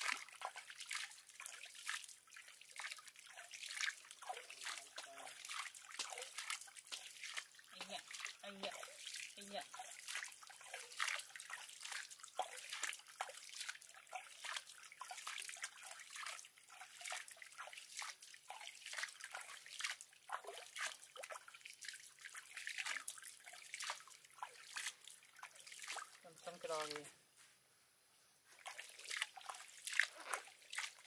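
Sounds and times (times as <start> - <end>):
water splashing and dripping: 0.0 - 27.2, 28.5 - 31.0.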